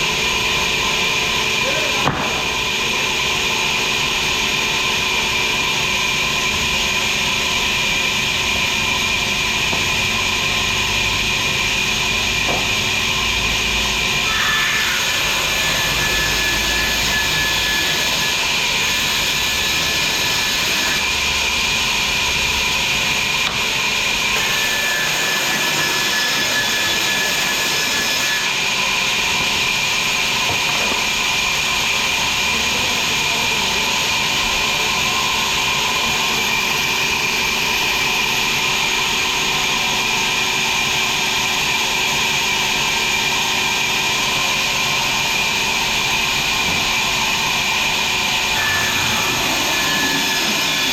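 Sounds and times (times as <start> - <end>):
sawmill machinery hissing: 10.0 - 50.9.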